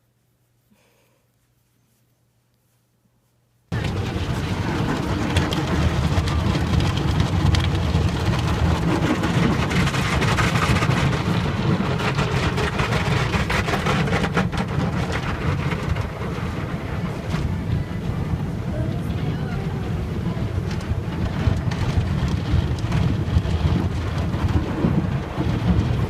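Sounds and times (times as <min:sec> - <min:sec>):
car road and engine noise: 0:03.7 - 0:26.0.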